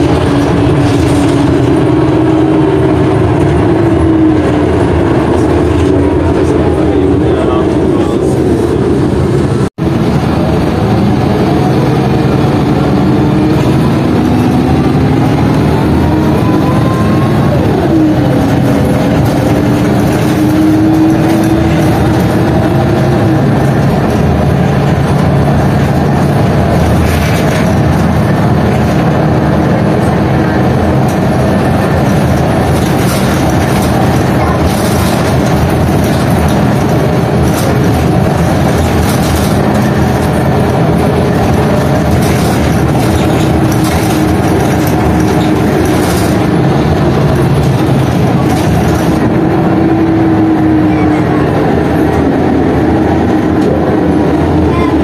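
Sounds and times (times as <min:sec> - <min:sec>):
bodywork rattles and creaks: 0:00.0 - 0:07.8, 0:11.0 - 0:55.0
bus engine and road noise: 0:00.0 - 0:55.0.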